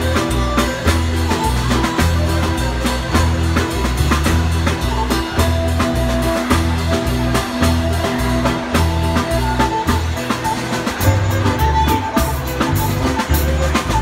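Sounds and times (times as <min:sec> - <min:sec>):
keyboards and bass: 0:00.0 - 0:14.0
steady drum beat: 0:00.0 - 0:14.0.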